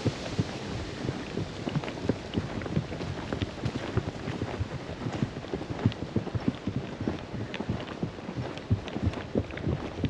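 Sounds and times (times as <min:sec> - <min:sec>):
horse hoofbeats on a trail: 0:00.0 - 0:10.0.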